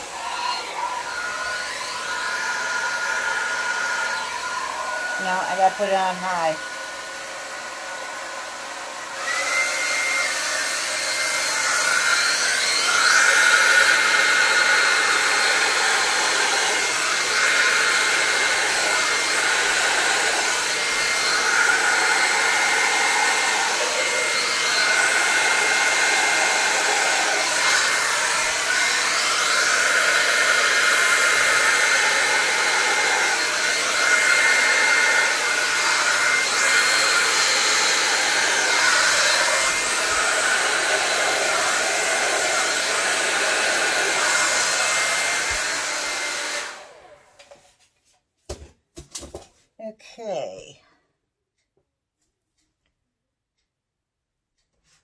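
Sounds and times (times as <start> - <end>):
hair dryer blowing with whine: 0.0 - 47.6.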